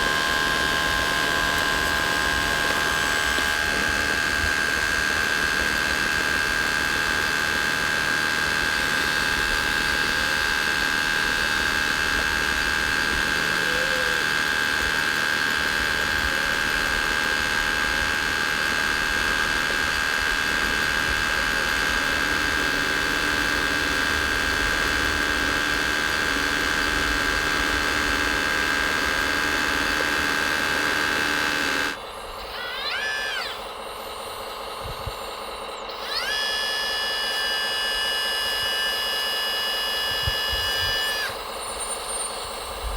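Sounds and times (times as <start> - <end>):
electric motor high whine: 0.0 - 42.9
quieter motor whines: 0.0 - 42.9.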